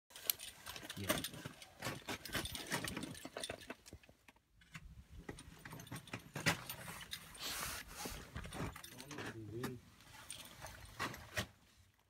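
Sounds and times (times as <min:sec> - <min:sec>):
metal climbing hardware clinking: 0:00.1 - 0:07.4, 0:08.3 - 0:11.4.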